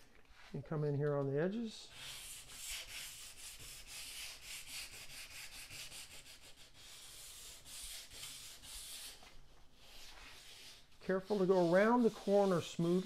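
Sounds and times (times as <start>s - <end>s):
sandpaper rubbing on wood: 1.9s - 9.2s, 9.8s - 13.0s.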